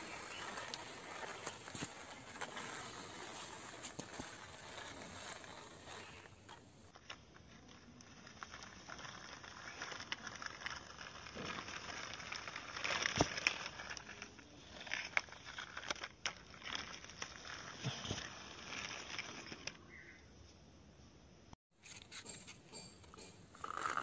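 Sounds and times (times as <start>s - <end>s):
plastic toy wheels scraping concrete: 0.0s - 19.8s, 23.5s - 24.0s.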